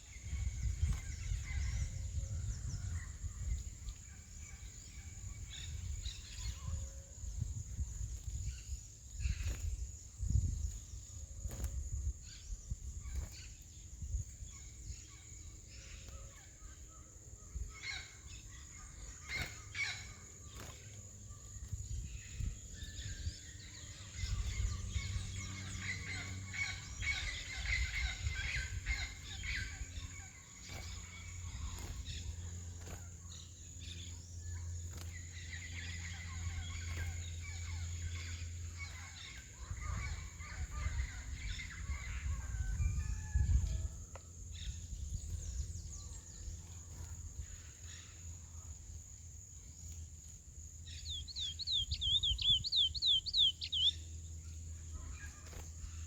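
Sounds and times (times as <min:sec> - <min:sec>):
finch chirping song: 0:00.0 - 0:43.9, 0:50.8 - 0:56.0.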